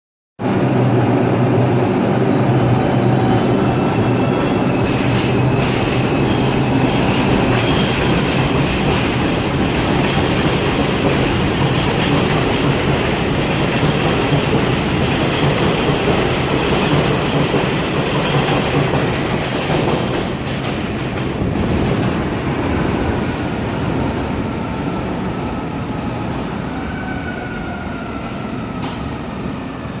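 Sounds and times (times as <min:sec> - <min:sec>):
subway train pulling out: 0:00.4 - 0:30.0.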